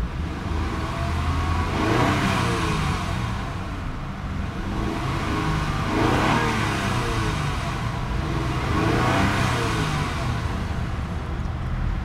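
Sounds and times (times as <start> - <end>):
car engine revving: 0.0 - 11.5.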